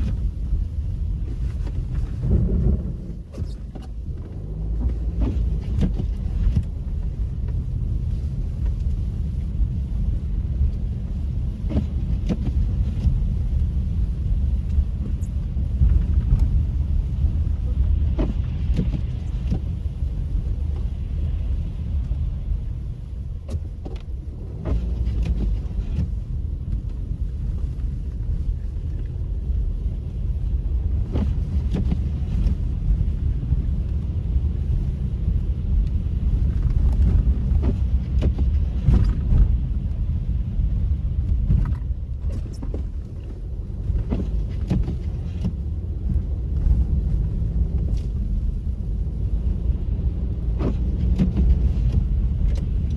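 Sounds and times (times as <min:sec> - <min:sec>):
car engine and tyres rumbling: 0:00.0 - 0:52.9.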